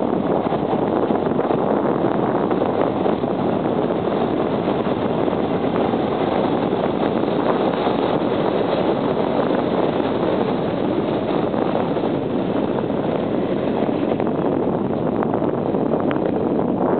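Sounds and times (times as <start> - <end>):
electric train rumbling on bridge: 0.0 - 16.9
wind on microphone: 0.0 - 16.9.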